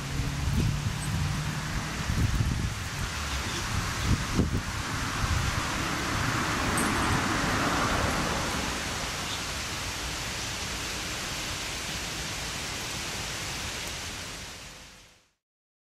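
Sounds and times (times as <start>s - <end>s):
rushing hiss: 0.0s - 15.2s.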